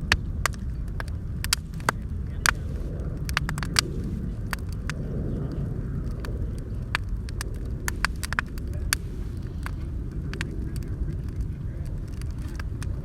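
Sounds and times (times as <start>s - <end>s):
low rumble: 0.0s - 13.0s
sharp pops and snaps: 0.0s - 13.0s
wood bonfire crackling: 0.0s - 13.0s.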